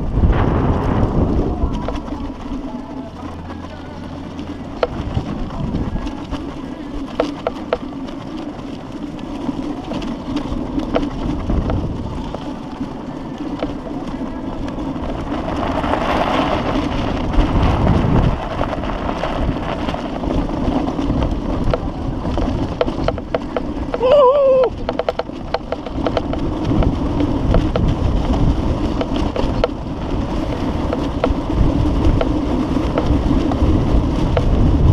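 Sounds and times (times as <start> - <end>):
crackling and sharp clicks: 0.0 - 34.9
wind rumbling on microphone: 0.0 - 34.9.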